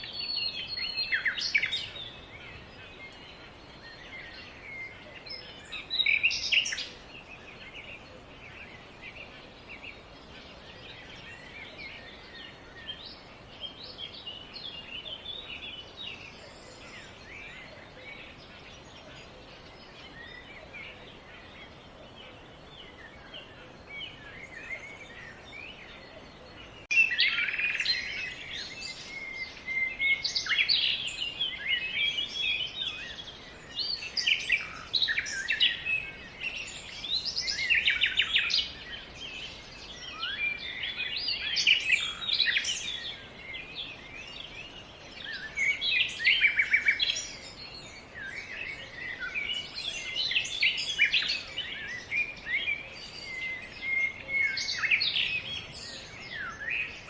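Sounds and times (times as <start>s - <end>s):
background hiss: 0.0s - 57.0s
birds chirping and calling: 0.0s - 57.0s.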